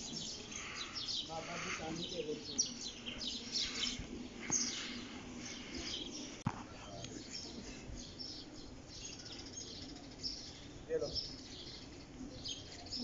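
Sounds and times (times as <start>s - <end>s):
background hum: 0.0s - 13.0s
small birds chirping: 0.0s - 13.0s.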